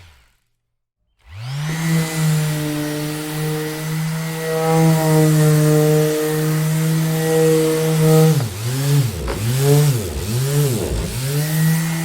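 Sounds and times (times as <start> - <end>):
electric sander humming: 1.4 - 12.0.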